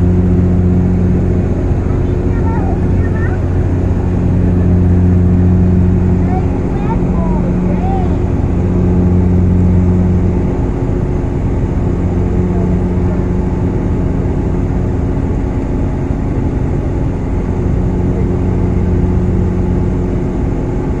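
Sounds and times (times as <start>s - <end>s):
airliner cabin air and engine noise: 0.0s - 21.0s
low steady hum: 0.0s - 21.0s.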